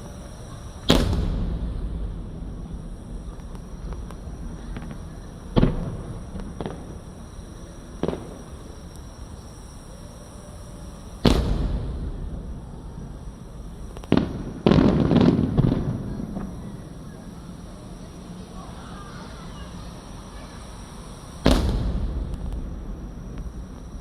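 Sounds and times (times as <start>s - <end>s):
crackling fireworks bursts: 0.0s - 24.0s
fireworks booming: 0.0s - 24.0s.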